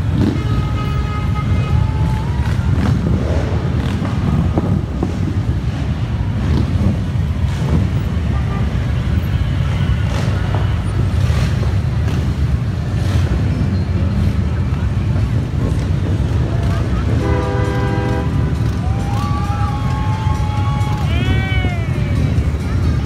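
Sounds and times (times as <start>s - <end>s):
motorcycles riding past: 0.0s - 23.0s.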